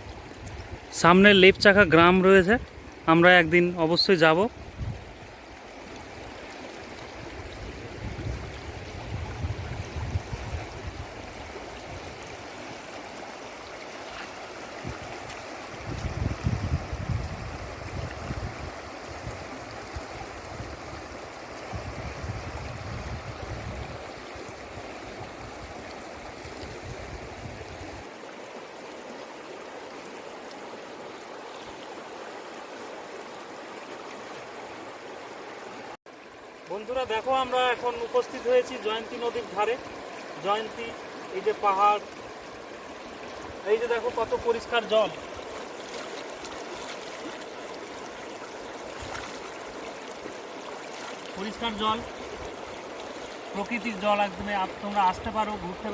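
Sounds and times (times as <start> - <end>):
river rushing over stones: 0.0 - 55.9.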